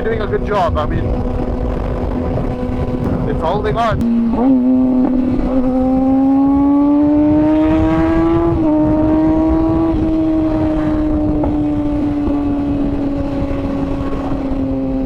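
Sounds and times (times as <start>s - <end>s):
motorcycle engine revving: 0.0s - 15.0s
wind rumble on microphone: 0.0s - 15.0s.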